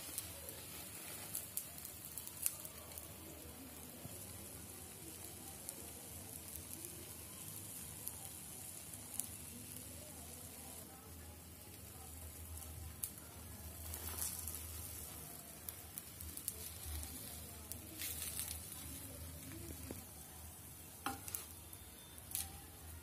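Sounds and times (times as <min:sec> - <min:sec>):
omelette sizzling in oil: 0:00.0 - 0:23.0.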